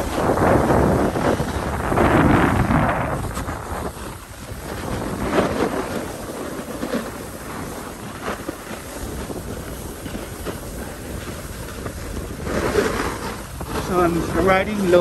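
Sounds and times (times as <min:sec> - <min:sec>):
snowboards scraping over snow: 0:00.0 - 0:15.0
wind buffeting microphone: 0:00.0 - 0:15.0.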